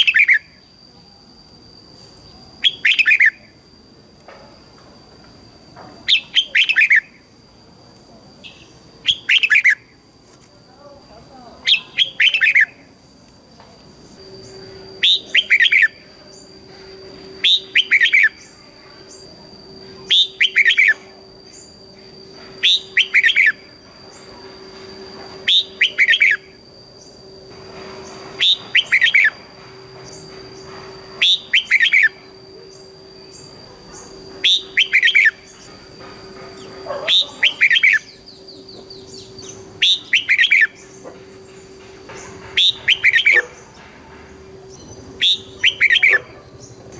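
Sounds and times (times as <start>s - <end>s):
bird whistled song: 0.0s - 0.8s, 2.0s - 3.6s, 6.0s - 7.3s, 8.4s - 10.0s, 11.6s - 13.0s, 14.2s - 43.8s, 44.6s - 46.9s
faint steady hum: 0.0s - 46.9s
thin high steady tones: 0.0s - 46.9s.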